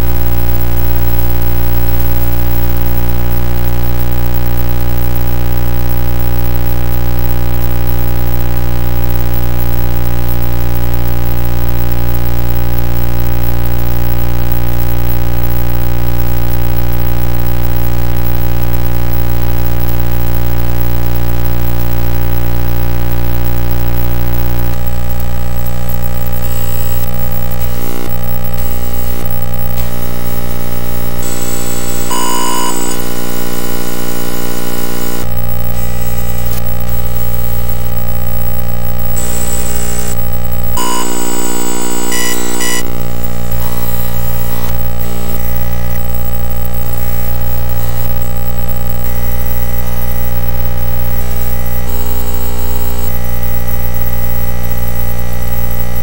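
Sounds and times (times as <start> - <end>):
harsh electronic buzzing drone: 0.0 - 56.0.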